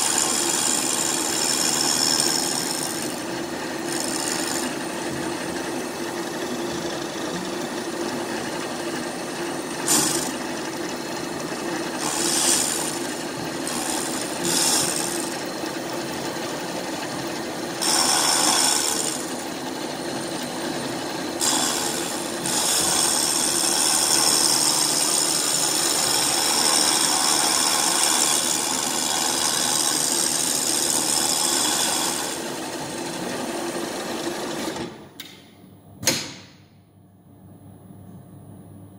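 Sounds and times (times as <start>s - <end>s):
cutter scraping iron: 0.0s - 19.6s, 20.3s - 35.0s
milling machine spindle hum: 0.0s - 35.2s.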